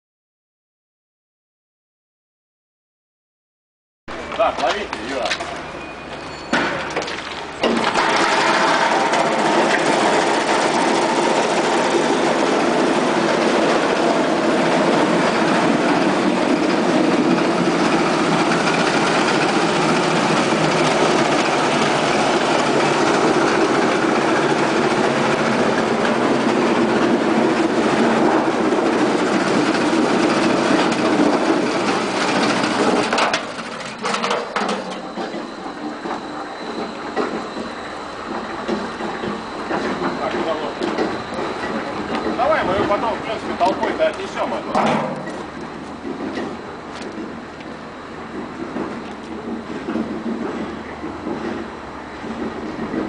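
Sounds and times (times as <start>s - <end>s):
roll-forming machine running: 6.8s - 53.0s.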